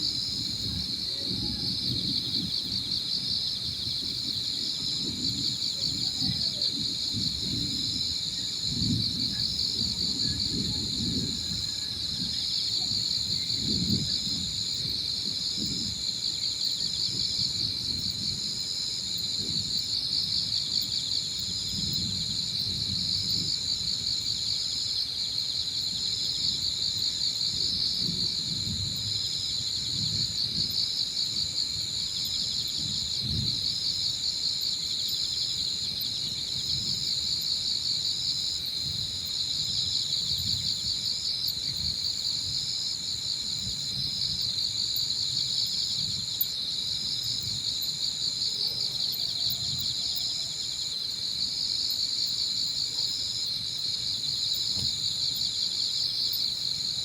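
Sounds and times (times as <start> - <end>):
wind rumble on microphone: 0.0 - 51.0, 52.2 - 55.5
insect chorus trilling: 0.0 - 57.0.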